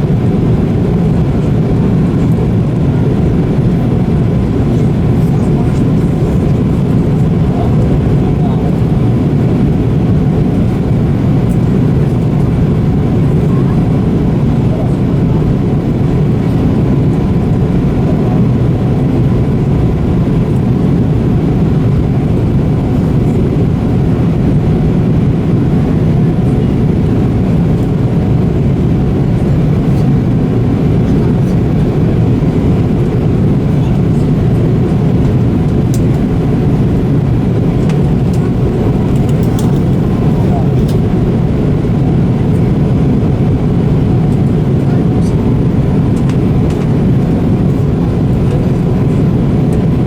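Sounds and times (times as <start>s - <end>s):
engine and airflow rumble: 0.0s - 50.0s.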